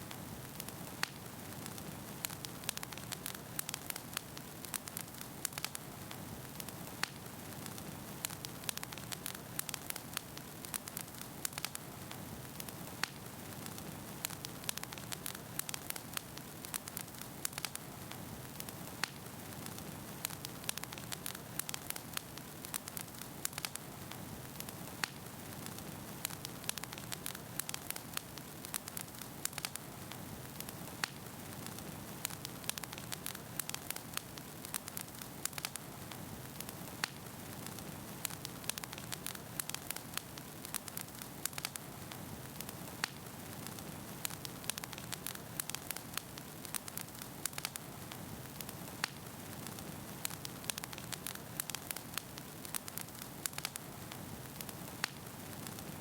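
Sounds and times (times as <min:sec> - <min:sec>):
fire popping and crackling: 0:00.0 - 0:56.0.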